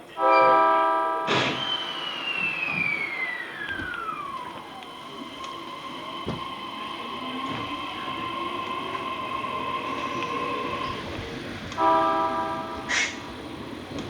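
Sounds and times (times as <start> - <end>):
electric train whine and hum: 0.0 - 14.0
air hiss: 1.3 - 13.9.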